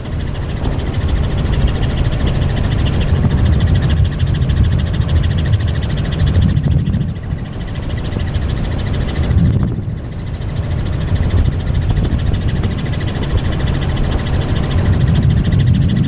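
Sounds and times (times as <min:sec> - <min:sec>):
helicopter rotor and engine: 0:00.0 - 0:16.0
thin high whine: 0:00.0 - 0:16.0.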